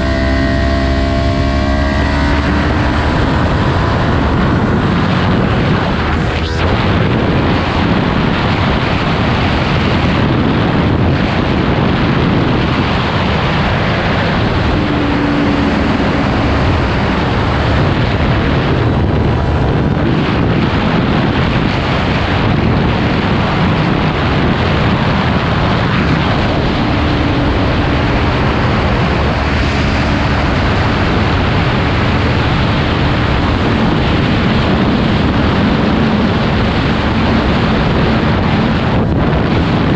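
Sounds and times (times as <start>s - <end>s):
heavy wind noise on microphone: 0.0s - 39.9s
motorcycle engine running: 0.0s - 39.9s.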